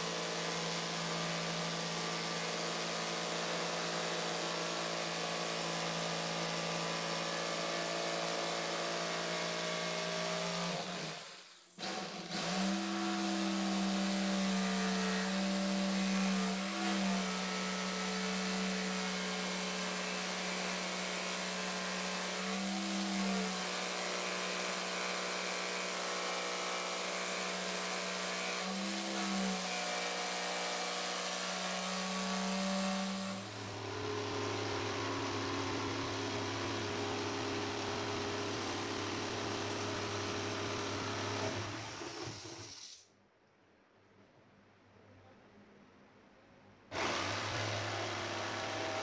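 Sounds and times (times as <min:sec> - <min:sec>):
jigsaw cutting plywood: 0:00.0 - 0:42.9, 0:46.9 - 0:49.0
jigsaw motor winding down: 0:00.0 - 0:43.0, 0:46.9 - 0:49.0.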